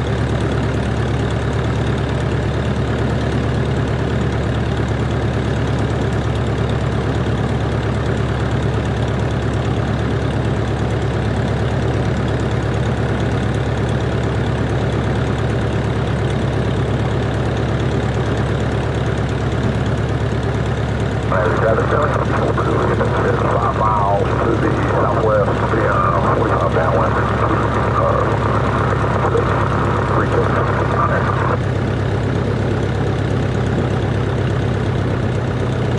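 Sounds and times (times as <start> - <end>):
propeller plane engine drone: 0.0 - 35.9.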